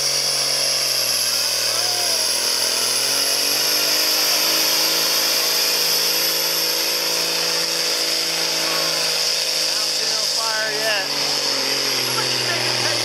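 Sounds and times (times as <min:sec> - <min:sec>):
tractor diesel engine at high revs: 0:00.0 - 0:13.0.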